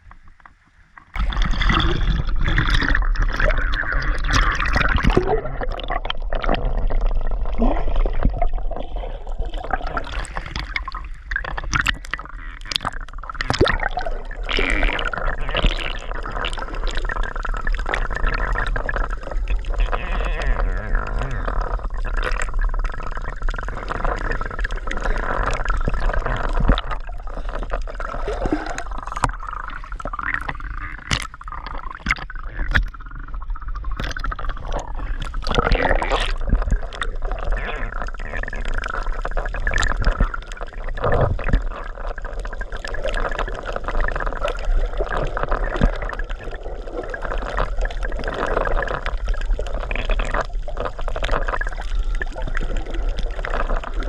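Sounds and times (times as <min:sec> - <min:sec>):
water sloshing and gurgling: 0:00.0 - 0:54.0
water splashes: 0:00.0 - 0:54.0.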